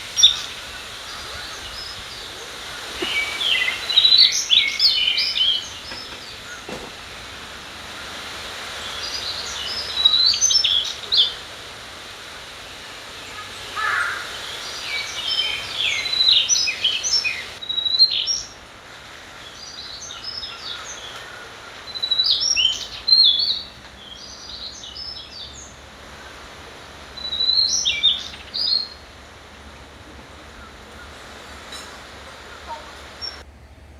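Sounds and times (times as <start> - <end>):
trickling stream: 0.0 - 33.5
songbirds chirping: 0.0 - 33.9.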